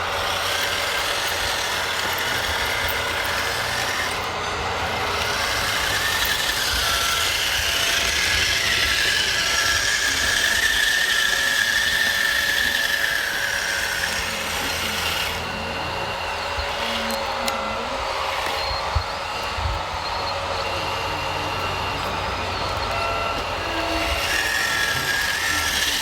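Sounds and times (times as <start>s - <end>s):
small electric motor whine: 0.0s - 26.0s
steady mechanical noise: 0.0s - 26.0s.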